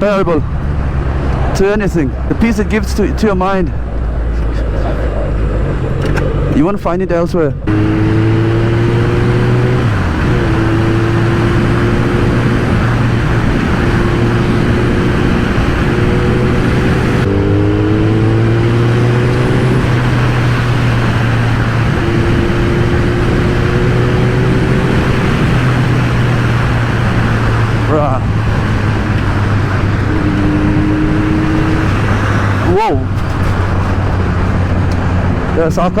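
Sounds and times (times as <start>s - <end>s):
constant rushing noise: 0.0s - 36.0s
motorcycle engine cruising: 0.0s - 36.0s.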